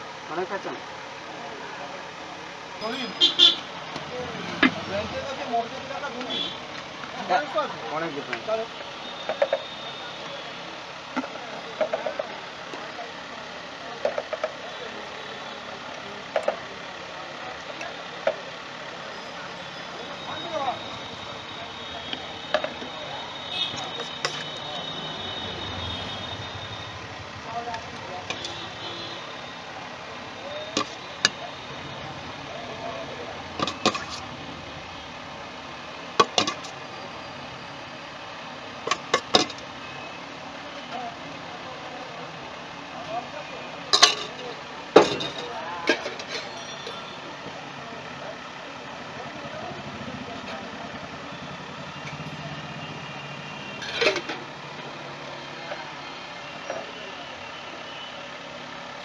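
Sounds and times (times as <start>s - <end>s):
street and traffic hum: 0.0s - 59.0s
vehicle engines running: 0.0s - 59.0s.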